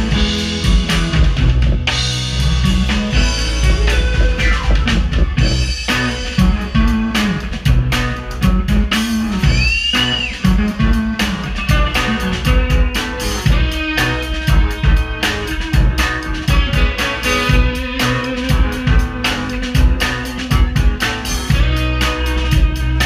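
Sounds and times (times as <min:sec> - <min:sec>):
bass line: 0:00.0 - 0:23.0
drum kit beat: 0:00.0 - 0:23.0
electric guitar: 0:00.0 - 0:23.0
keyboards: 0:00.0 - 0:23.0.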